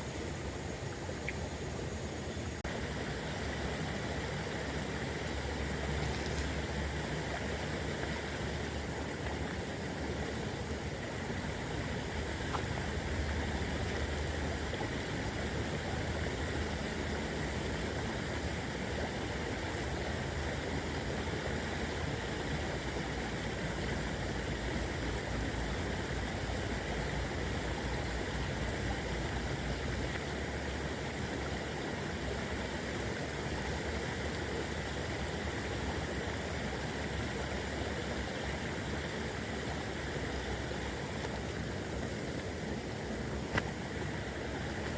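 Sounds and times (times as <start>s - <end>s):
small river babbling: 0.0s - 44.9s.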